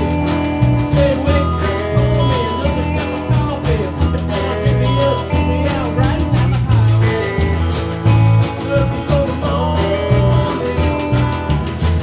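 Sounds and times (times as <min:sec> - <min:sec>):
bass line: 0:00.0 - 0:12.0
steady beat: 0:00.0 - 0:12.0
strummed acoustic guitar: 0:00.0 - 0:12.0.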